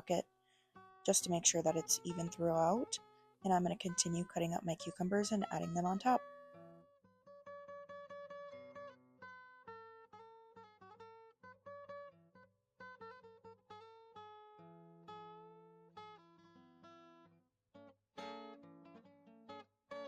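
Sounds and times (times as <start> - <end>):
acoustic guitar playing: 1.1 - 17.3, 18.2 - 20.0.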